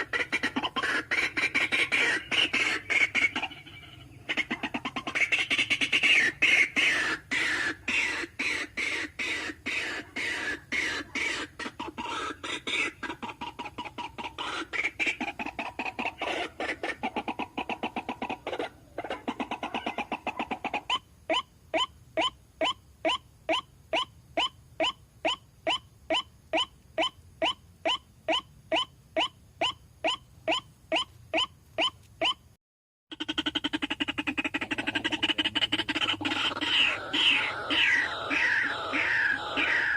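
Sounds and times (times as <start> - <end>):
waterhen calling: 0.0 - 32.4, 33.1 - 39.9.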